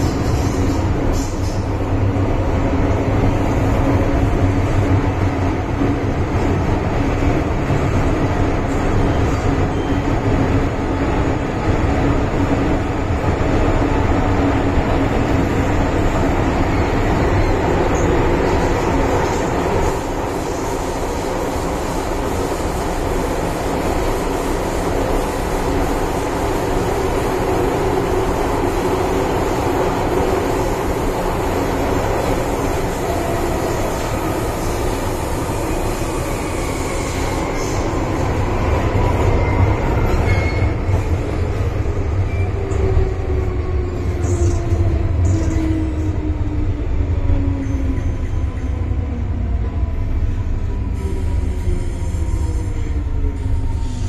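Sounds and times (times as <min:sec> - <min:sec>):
train wheel and rail noise: 0:00.0 - 0:54.0.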